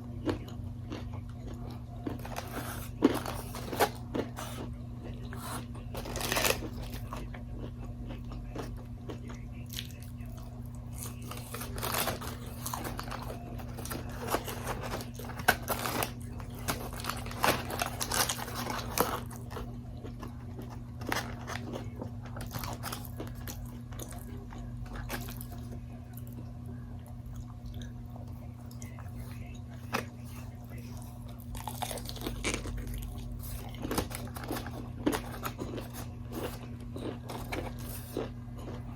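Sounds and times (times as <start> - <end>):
crunchy bites and chewing: 0.0 - 26.5, 27.1 - 38.9.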